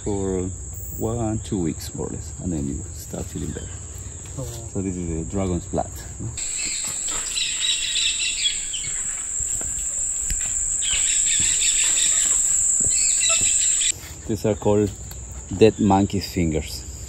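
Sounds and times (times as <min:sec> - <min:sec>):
insect chirping calls: 0:00.0 - 0:14.0
insects droning: 0:00.0 - 0:17.0.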